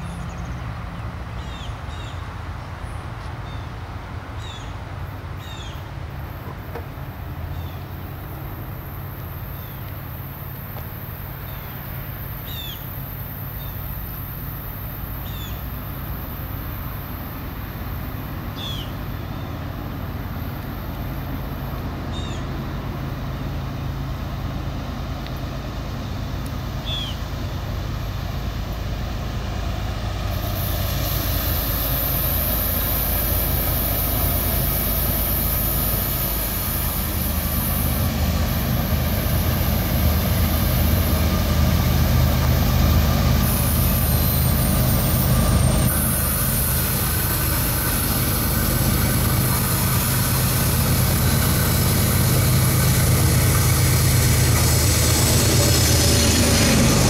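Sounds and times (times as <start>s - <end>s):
diesel locomotive rumble: 0.0s - 57.0s.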